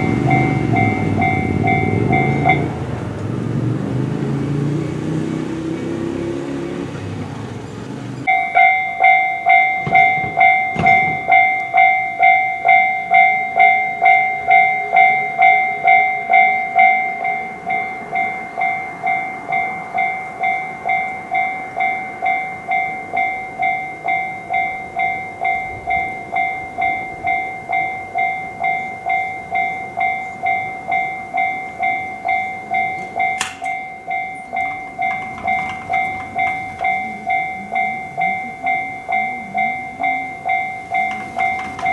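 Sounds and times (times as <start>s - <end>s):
level crossing alarm ringing: 0.0s - 41.9s.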